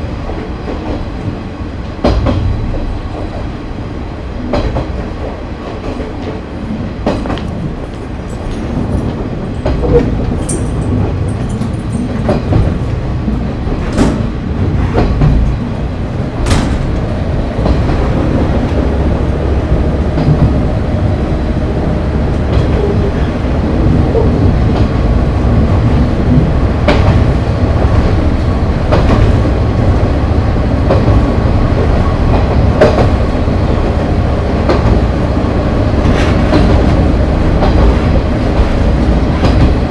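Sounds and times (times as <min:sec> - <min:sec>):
rumble of train wheels: 0:00.0 - 0:39.9
wheels clacking on rail joints: 0:04.4 - 0:39.9.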